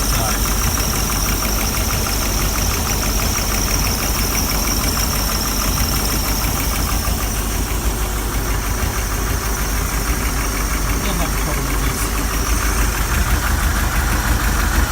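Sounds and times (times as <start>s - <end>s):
boat engine idling: 0.0s - 14.9s
engine valve ticking: 0.0s - 14.9s.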